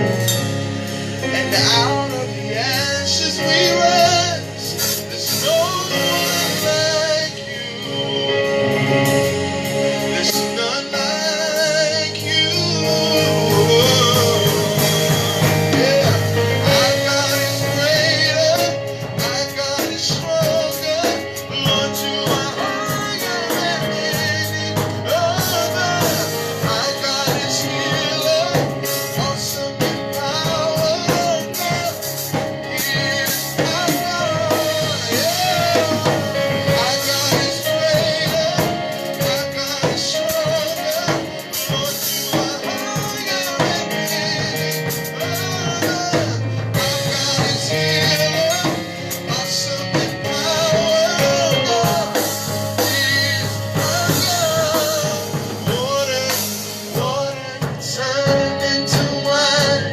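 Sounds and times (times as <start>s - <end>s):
drum kit: 0.0s - 59.9s
person singing: 0.0s - 59.9s
worship band playing: 0.0s - 59.9s.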